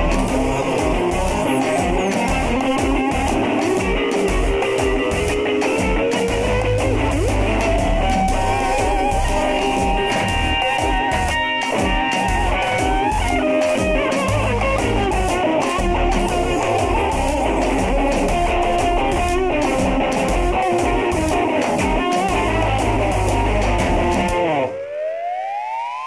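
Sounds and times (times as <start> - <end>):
heavy bass line: 0.0 - 24.7
live band with guitar: 0.0 - 24.7.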